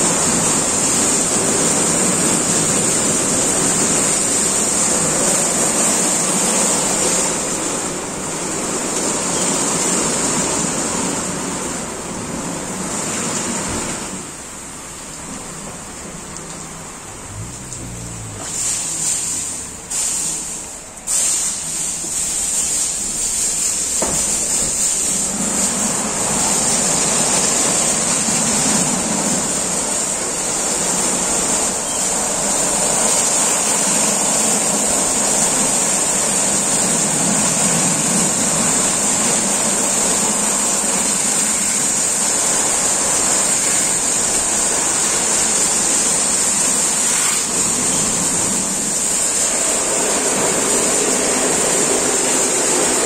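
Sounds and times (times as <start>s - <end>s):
car wash brushes and water spray: 0.0s - 53.0s
strong high hiss: 0.0s - 53.0s.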